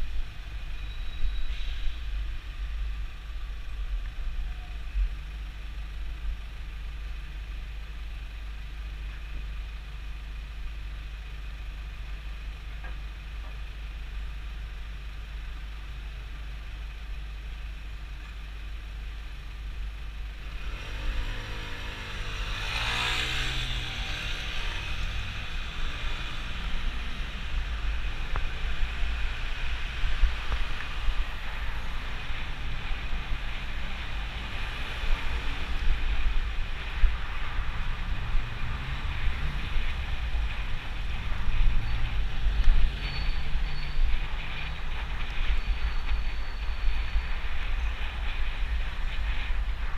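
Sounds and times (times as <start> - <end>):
street traffic: 0.0 - 49.9.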